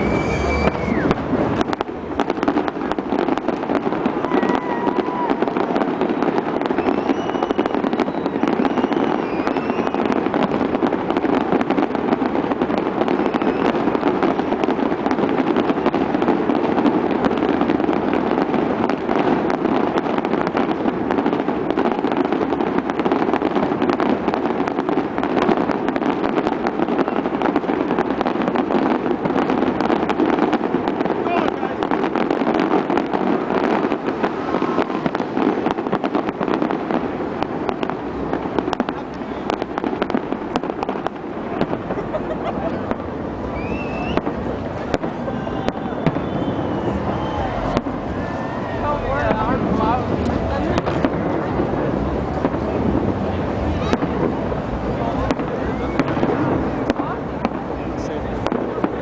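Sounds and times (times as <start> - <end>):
firework whistles: 0.0 - 59.0
fireworks crackling and popping: 0.0 - 59.0.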